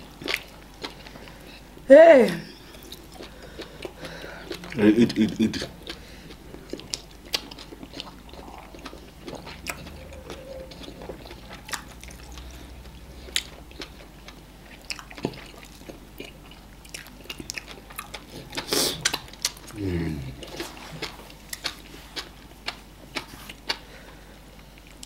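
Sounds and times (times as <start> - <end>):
chewing meat: 0.0 - 1.6, 2.6 - 25.0.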